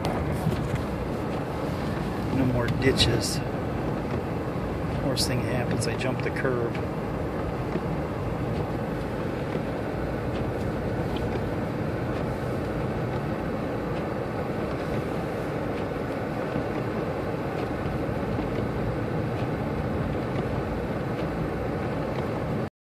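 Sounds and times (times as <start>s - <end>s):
car road and engine noise: 0.0s - 22.7s.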